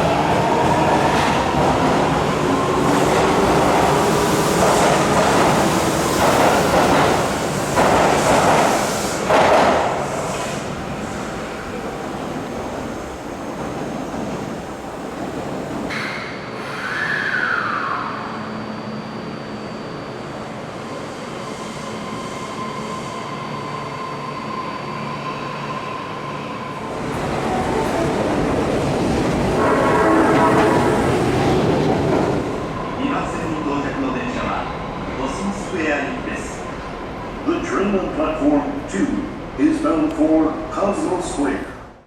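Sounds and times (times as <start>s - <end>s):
subway train running and wheel noise: 0.0s - 42.0s.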